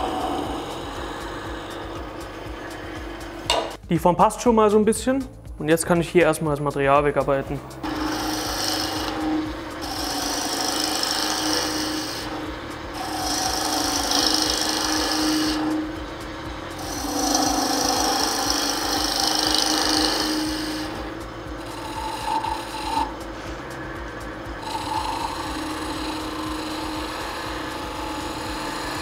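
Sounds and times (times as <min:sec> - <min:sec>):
turning tool scraping wood: 0:00.0 - 0:03.5, 0:07.5 - 0:29.0
lathe humming: 0:00.0 - 0:03.8, 0:07.4 - 0:29.0.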